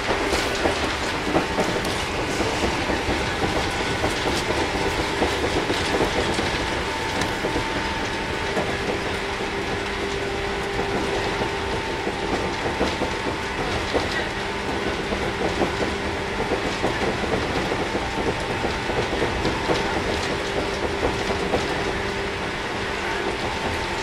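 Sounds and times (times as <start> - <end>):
clickety-clack over rail joints: 0.0 - 24.0
train wheels rumbling on rail: 0.0 - 24.0.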